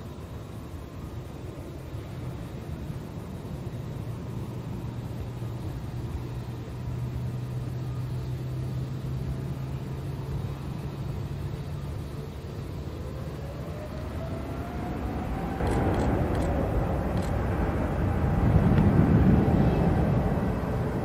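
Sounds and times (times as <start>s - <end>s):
jet engine rumble: 0.0s - 21.0s
jet engine whine rising: 0.0s - 21.0s.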